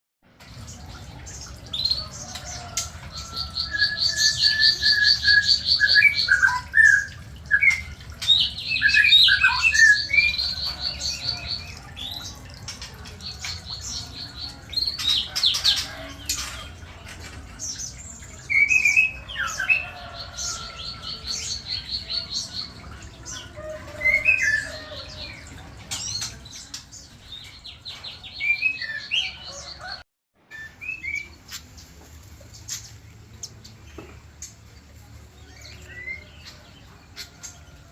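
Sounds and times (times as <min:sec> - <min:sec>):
birds chirps and squawks: 0:00.4 - 0:37.9.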